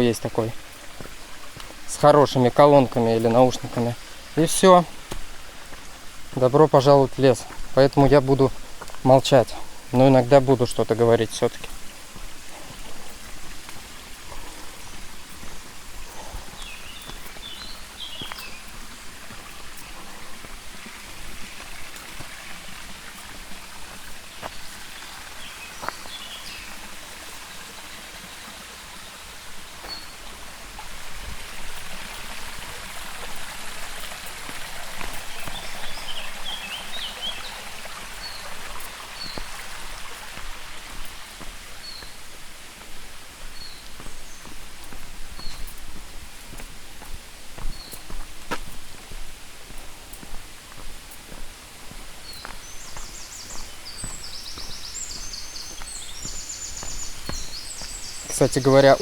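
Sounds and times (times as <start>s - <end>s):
small birds chirping: 0.0s - 59.0s
stream flowing: 0.0s - 59.0s.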